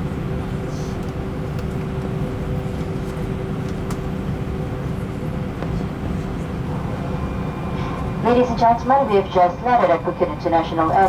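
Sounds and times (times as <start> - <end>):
airplane cabin rumble: 0.0 - 11.0
airplane engines humming: 0.0 - 11.0.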